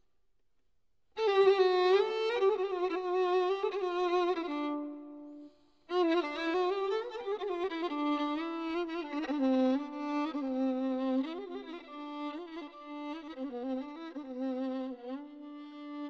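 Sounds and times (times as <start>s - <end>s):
solo violin improvisation: 1.2s - 16.0s.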